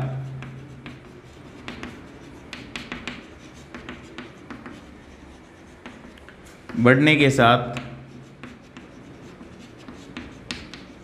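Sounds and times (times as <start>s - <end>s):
chalk writing on a blackboard: 0.0s - 6.9s, 7.7s - 11.0s.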